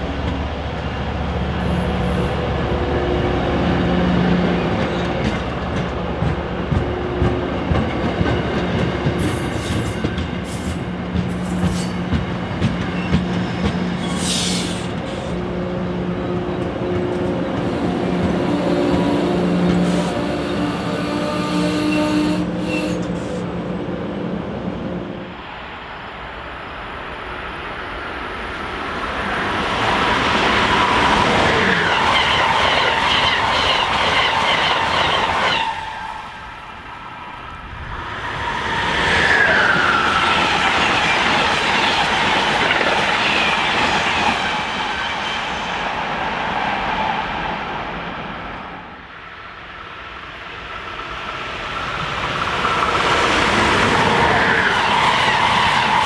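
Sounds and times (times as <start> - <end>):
trains rushing past: 0.0 - 56.0.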